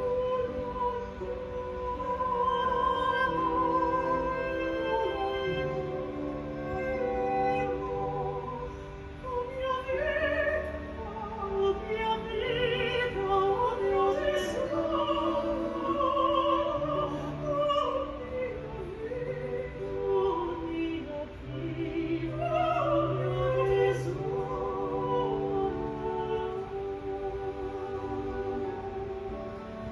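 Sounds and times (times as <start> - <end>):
operatic singing with vibrato: 0.0 - 29.9
orchestral accompaniment: 0.0 - 29.9.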